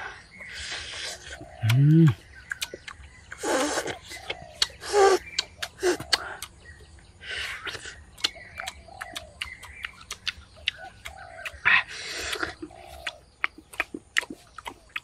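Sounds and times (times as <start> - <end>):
wet chewing: 1.2 - 6.8, 7.6 - 15.0.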